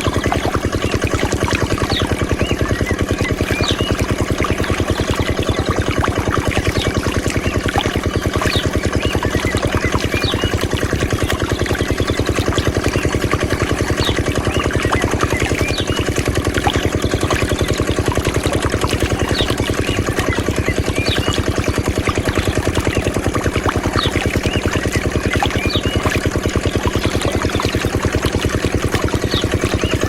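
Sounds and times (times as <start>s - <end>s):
diesel water pump engine: 0.0s - 30.0s.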